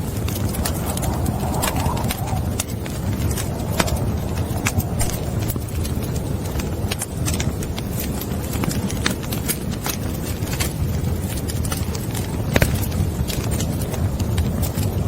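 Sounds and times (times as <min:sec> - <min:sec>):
fire crackles and pops: 0:00.0 - 0:15.0
low rumble of flames: 0:00.0 - 0:15.0.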